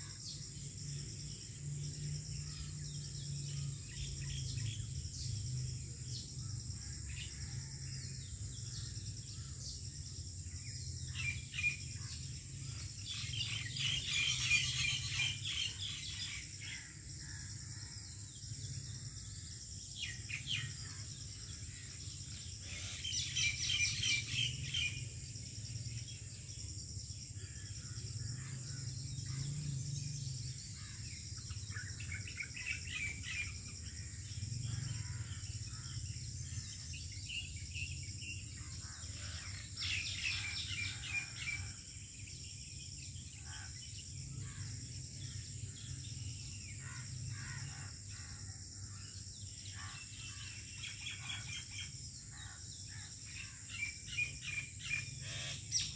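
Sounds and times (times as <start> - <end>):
birds chirping and trilling: 0.0 - 55.9
high insect drone: 0.0 - 55.9.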